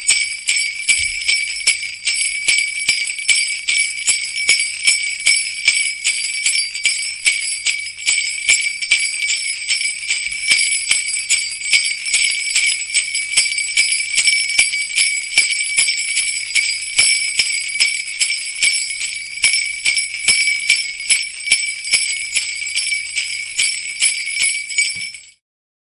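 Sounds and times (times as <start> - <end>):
sleigh bells jingling: 0.0 - 25.4.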